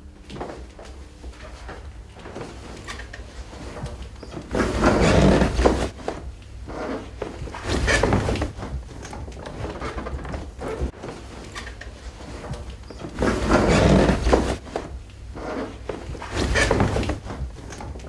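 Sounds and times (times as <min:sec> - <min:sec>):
footsteps going down stairs: 0:00.0 - 0:18.0
clothing rustle: 0:00.2 - 0:18.0.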